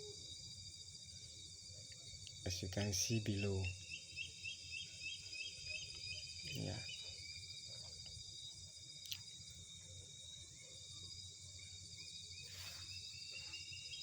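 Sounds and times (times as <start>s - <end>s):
high-pitched insect trilling: 0.0s - 14.0s.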